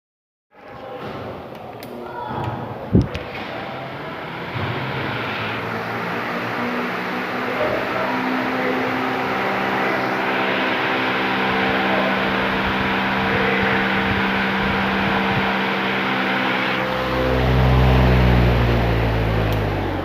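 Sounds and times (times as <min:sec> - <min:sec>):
fan air rushing: 0:01.8 - 0:20.0
fan motor hum: 0:01.8 - 0:20.0
deep low hum: 0:02.9 - 0:20.0.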